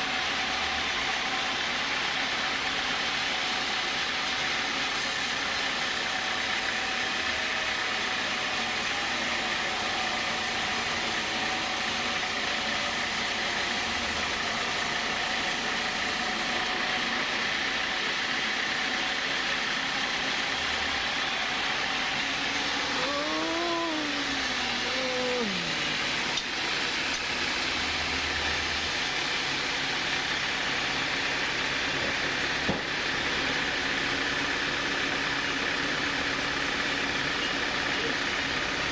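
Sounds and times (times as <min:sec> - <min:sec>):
sawmill machinery sawing logs: 0:00.0 - 0:38.9.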